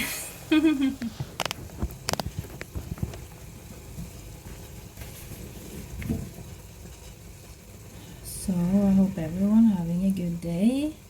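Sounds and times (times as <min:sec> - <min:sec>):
porridge bubbling in a pot: 0:00.0 - 0:11.0.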